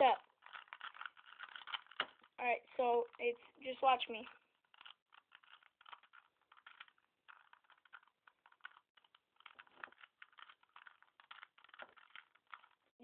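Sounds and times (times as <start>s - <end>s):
puzzle cube clicking as turned: 0.2s - 2.4s, 4.3s - 12.8s.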